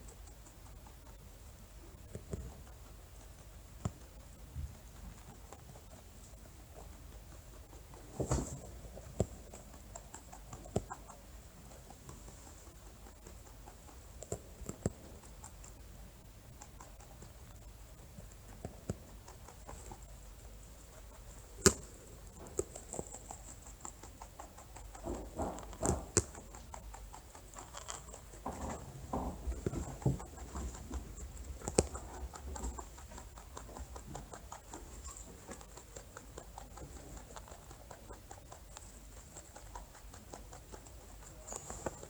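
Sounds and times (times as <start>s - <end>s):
rabbit scuffling: 0.0s - 42.0s
rabbit soft taps and clicks: 0.0s - 42.0s.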